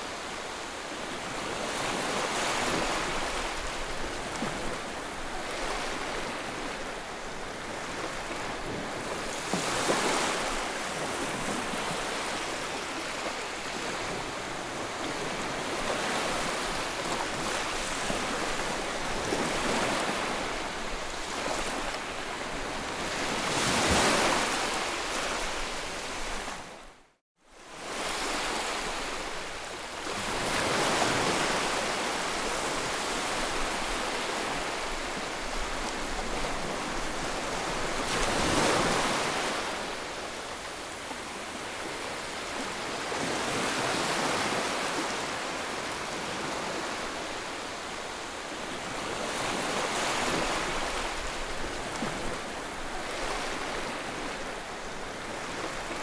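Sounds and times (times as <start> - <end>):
waves breaking: 1.2 - 26.7, 27.8 - 56.0.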